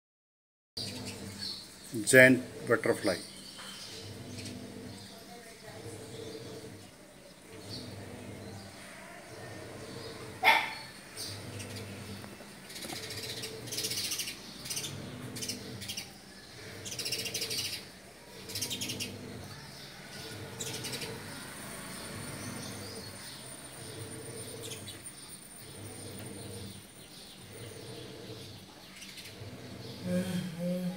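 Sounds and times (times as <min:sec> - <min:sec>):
birds chirping: 0:00.8 - 0:30.9.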